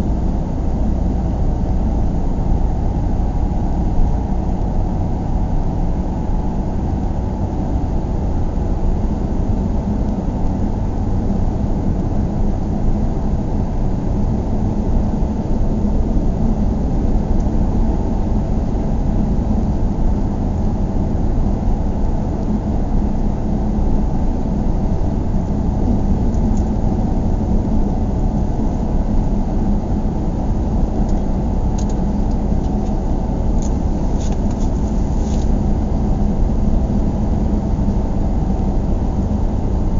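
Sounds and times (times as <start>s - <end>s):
low vehicle rumble: 0.0s - 39.9s
steady hum: 0.0s - 39.9s.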